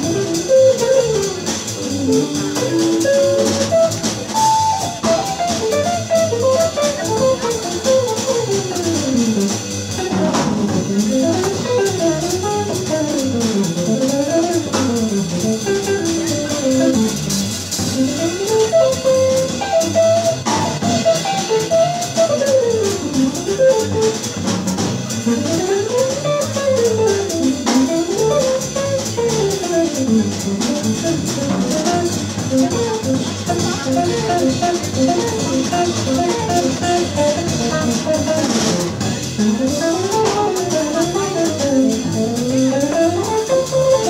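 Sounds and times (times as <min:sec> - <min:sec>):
double bass: 0:00.0 - 0:44.0
drum kit with cymbals: 0:00.0 - 0:44.0.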